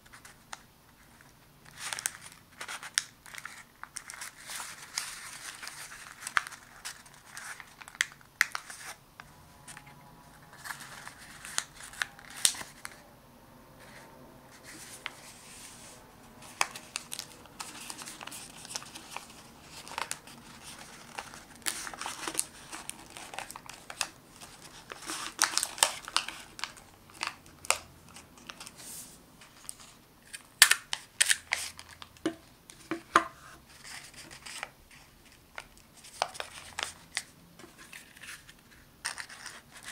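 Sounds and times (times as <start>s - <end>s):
paper being folded and creased: 0.1s - 9.0s, 9.7s - 13.0s, 13.8s - 32.0s, 33.7s - 39.9s.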